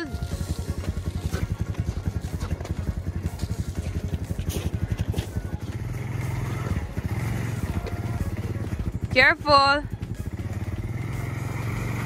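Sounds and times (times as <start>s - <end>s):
atv engine chugging: 0.0s - 12.0s.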